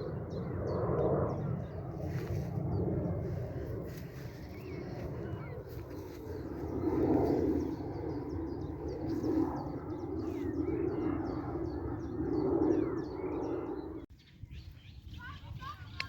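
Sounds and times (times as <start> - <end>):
birds calling with downward slides: 0.0 - 16.0.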